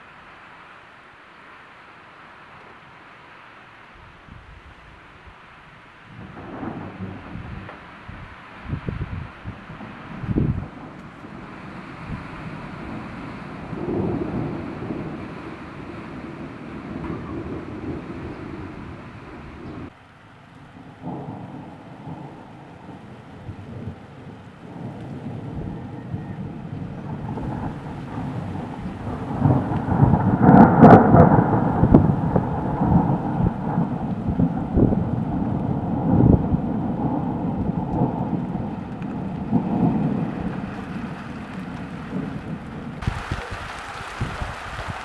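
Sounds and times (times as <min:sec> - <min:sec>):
rain falling: 0:00.0 - 0:45.0
thunder rumbling: 0:04.0 - 0:20.0, 0:20.6 - 0:45.0.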